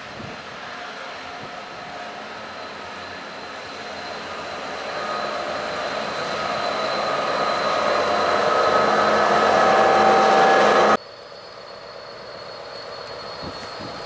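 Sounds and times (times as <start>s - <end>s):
diesel locomotive engine: 0.0s - 14.0s
steady whining tones: 0.5s - 14.0s.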